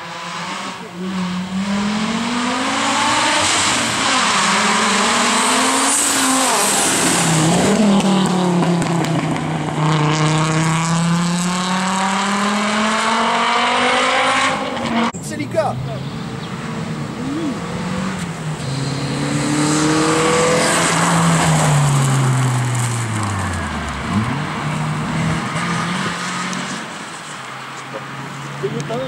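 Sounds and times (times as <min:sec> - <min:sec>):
rally car engine accelerating: 0:00.0 - 0:15.2, 0:16.0 - 0:26.9.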